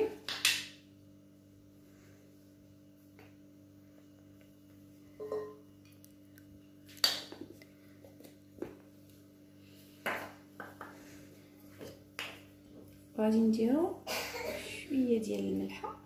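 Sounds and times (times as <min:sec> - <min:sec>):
steady low hum: 0:00.8 - 0:16.0.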